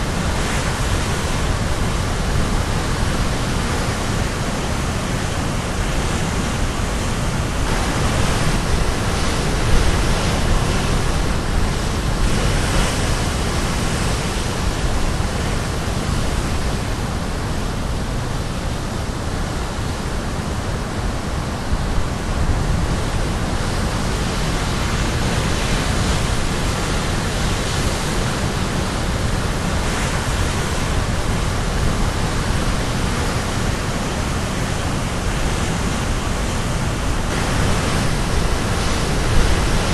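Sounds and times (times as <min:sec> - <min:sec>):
sea waves crashing: 0:00.0 - 0:39.9
wind on microphone: 0:00.0 - 0:39.9.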